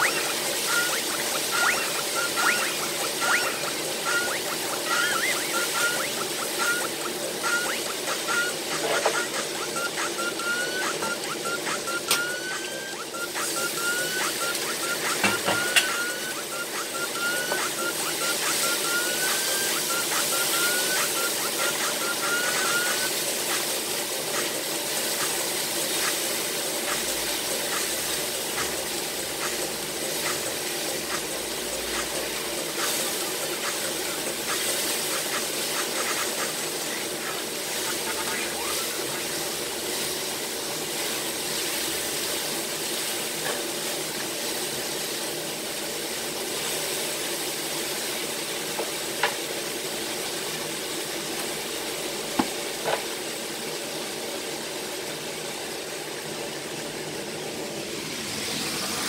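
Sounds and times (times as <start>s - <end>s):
food sizzling in a hot pan: 0.0s - 59.0s.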